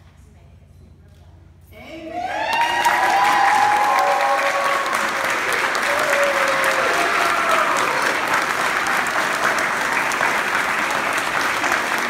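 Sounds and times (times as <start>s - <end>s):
crowd applauding: 2.2s - 12.0s.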